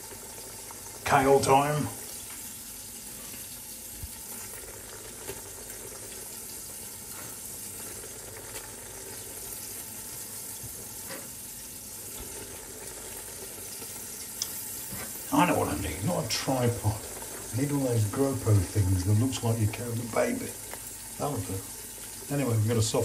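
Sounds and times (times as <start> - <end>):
sausages sizzling: 0.0 - 23.0
stew simmering: 0.0 - 23.0.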